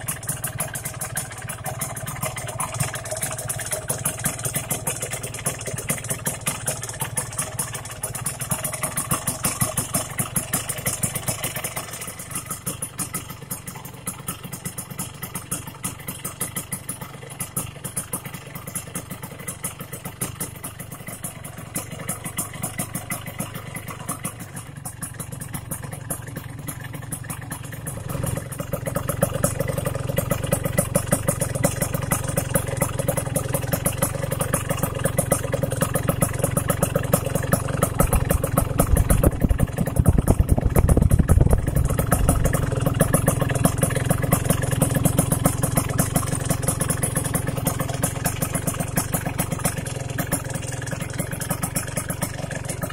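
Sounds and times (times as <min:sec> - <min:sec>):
motorcycle engine idling: 0:00.0 - 0:52.9.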